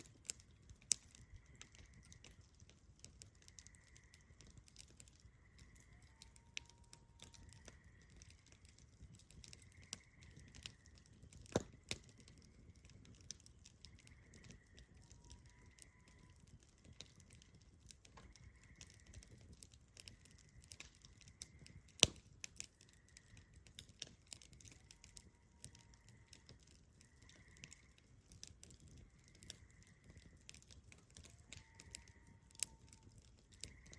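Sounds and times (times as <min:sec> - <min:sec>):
fire snaps: 0:00.0 - 0:33.9
wood fire crackling and popping: 0:00.0 - 0:33.9.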